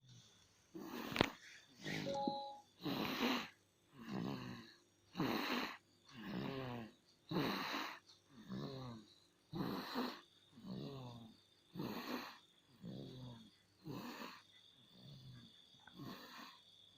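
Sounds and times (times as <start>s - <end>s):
child snoring: 0.7s - 2.2s, 2.8s - 16.6s.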